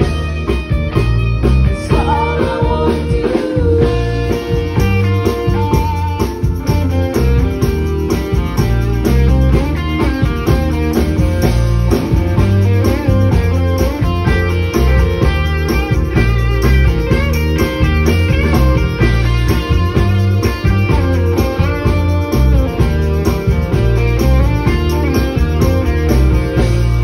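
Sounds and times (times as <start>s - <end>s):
live band with electric guitars: 0.0s - 27.0s.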